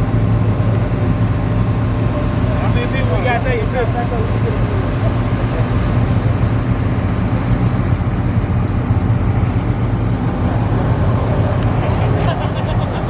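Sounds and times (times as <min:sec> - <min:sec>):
motor vehicle droning: 0:00.0 - 0:13.0.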